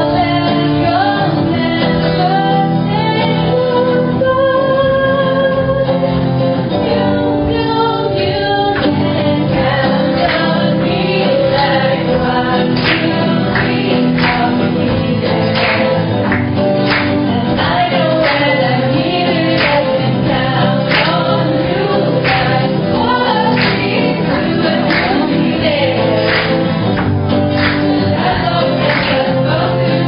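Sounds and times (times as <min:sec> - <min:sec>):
group of voices singing: 0:00.0 - 0:30.0
strummed acoustic guitar: 0:00.0 - 0:30.0.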